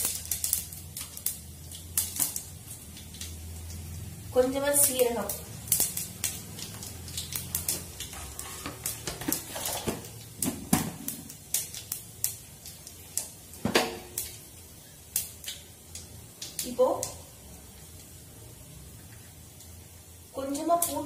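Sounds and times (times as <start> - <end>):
seeds popping in hot oil: 0.0 - 21.0.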